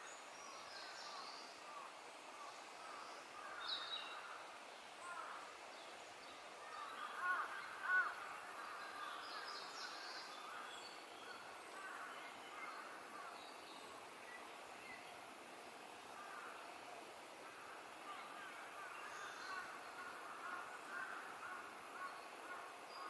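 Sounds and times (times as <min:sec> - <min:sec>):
birds calling faintly: 0:00.0 - 0:23.0
steady outdoor hiss: 0:00.0 - 0:23.0.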